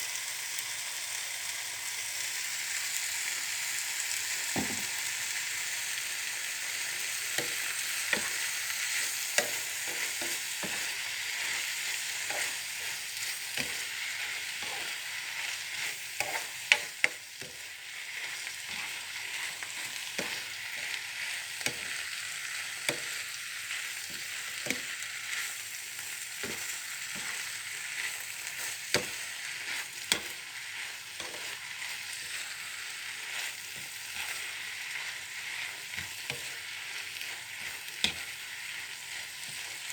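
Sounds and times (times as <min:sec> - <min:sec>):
cabbage sizzling in a pan: 0:00.0 - 0:39.9
spatula scraping a pan: 0:06.7 - 0:39.9.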